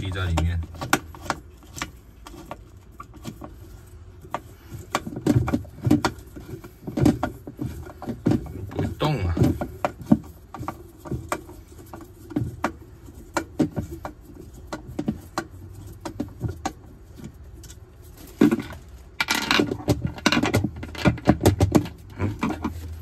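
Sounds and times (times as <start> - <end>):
rattling and knocking: 0.0 - 17.4, 18.1 - 23.0.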